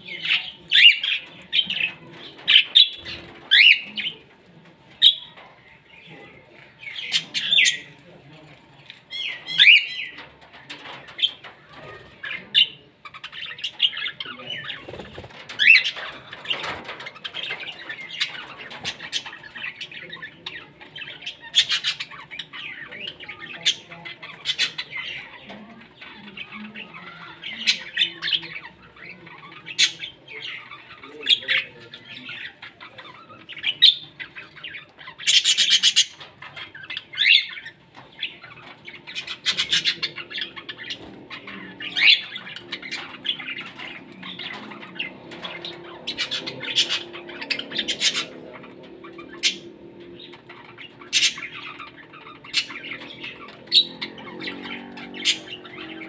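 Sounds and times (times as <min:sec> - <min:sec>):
birds chirping and chattering: 0:00.0 - 0:56.0.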